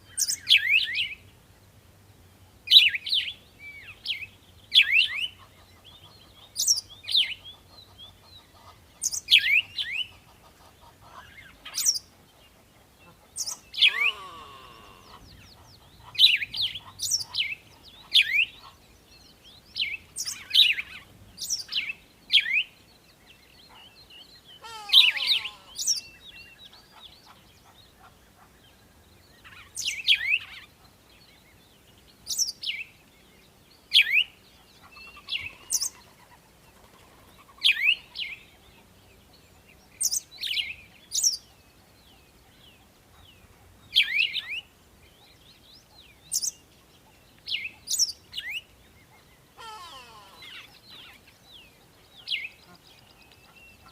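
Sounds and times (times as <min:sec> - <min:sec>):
bird chirping: 0:00.0 - 0:01.4, 0:02.2 - 0:53.9.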